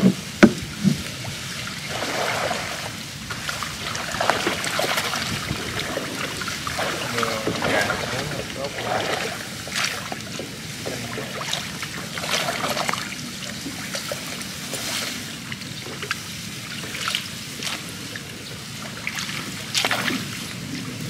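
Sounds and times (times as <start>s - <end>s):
water trickling and splashing: 0.0s - 21.0s.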